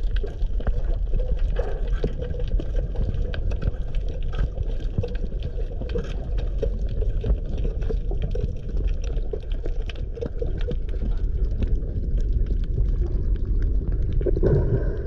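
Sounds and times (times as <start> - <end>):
muffled rumble of moving water: 0.0 - 15.0
underwater bubbling: 0.0 - 15.0.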